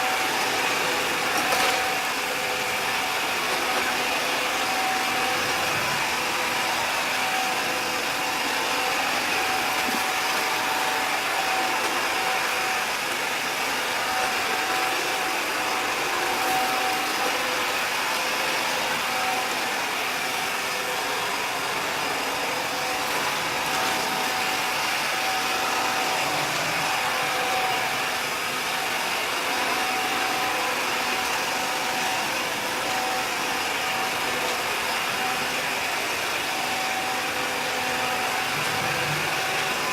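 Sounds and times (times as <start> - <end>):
robot vacuum cleaners running: 0.0 - 39.9.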